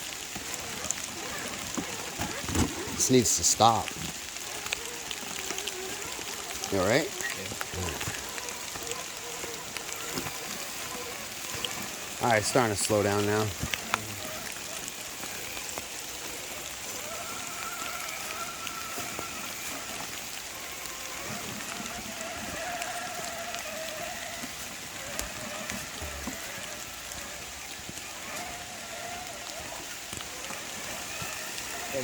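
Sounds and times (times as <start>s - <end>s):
rain pattering: 0.0s - 32.0s.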